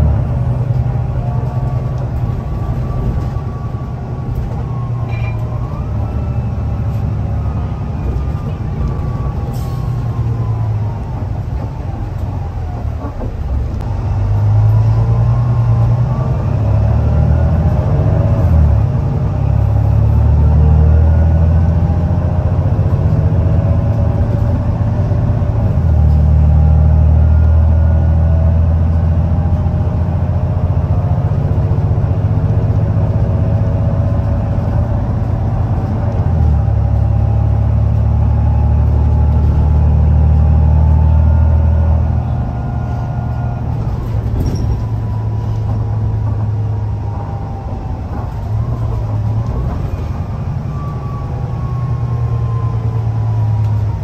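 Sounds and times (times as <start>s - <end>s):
bus diesel engine drone: 0.0s - 54.0s
engine whine: 0.0s - 54.0s.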